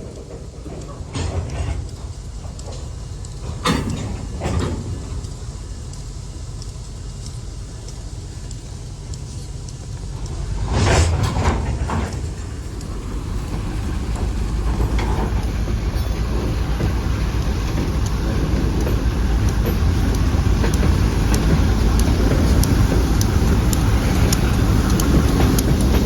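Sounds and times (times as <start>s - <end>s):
diesel locomotives rumbling: 0.0s - 26.0s
faint regular clicks: 0.1s - 10.8s, 11.4s - 26.0s.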